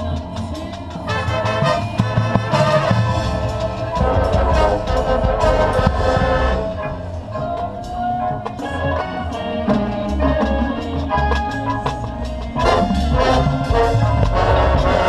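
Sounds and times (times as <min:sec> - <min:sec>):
brass holding chords: 0:00.0 - 0:15.0
drumline strokes: 0:00.0 - 0:15.0
mallet percussion: 0:00.0 - 0:15.0.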